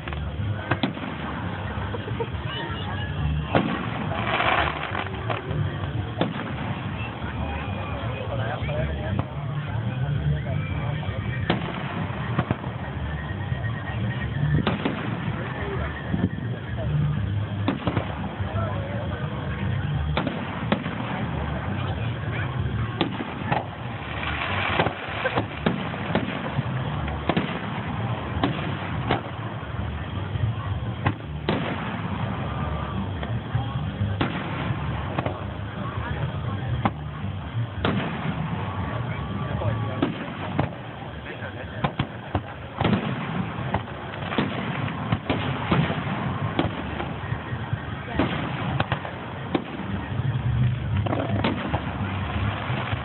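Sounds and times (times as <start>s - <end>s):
fireworks bursting with sharp bangs: 0.0s - 53.0s
low background rumble: 0.0s - 53.0s.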